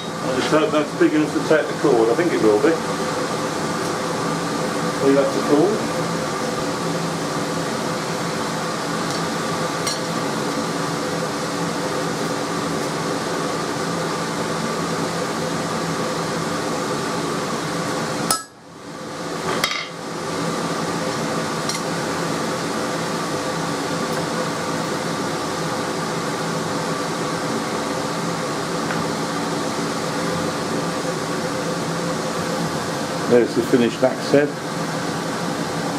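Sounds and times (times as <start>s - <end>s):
electric fan motor humming: 0.0s - 35.9s.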